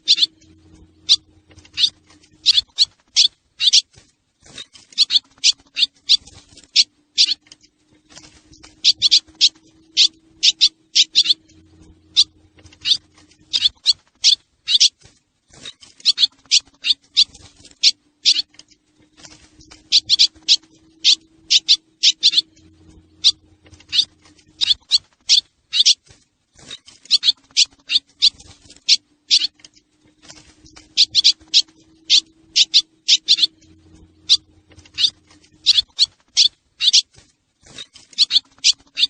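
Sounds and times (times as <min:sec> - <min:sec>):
swallows chirping: 0:00.0 - 0:39.0.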